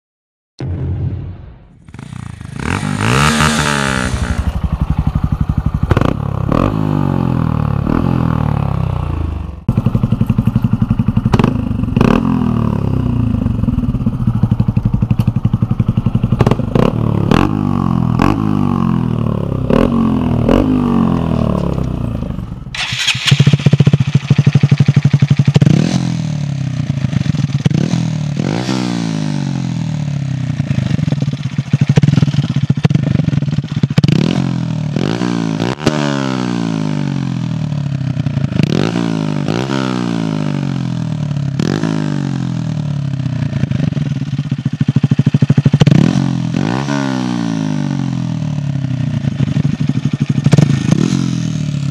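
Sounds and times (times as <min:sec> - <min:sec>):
motorcycle engine revving: 0:00.6 - 0:51.9.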